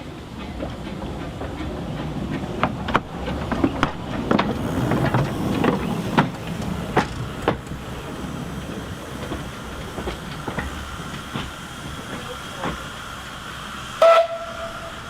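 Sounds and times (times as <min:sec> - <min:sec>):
wheels and couplings clanking: 0:00.0 - 0:13.1
steam train rumbling: 0:00.0 - 0:15.0.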